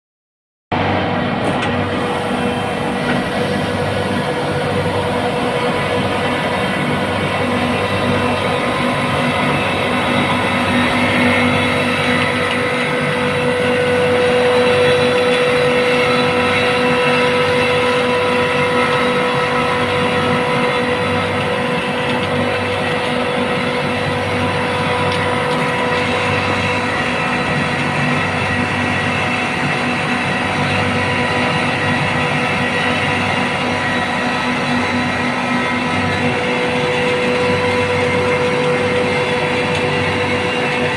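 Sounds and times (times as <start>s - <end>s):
compressor whining and rumbling: 0.7s - 40.9s.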